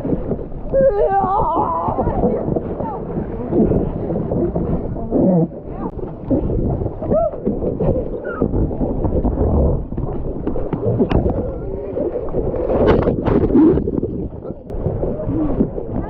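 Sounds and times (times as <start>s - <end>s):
water splashing and churning: 0.0s - 16.0s
wind buffeting microphone: 0.0s - 16.0s.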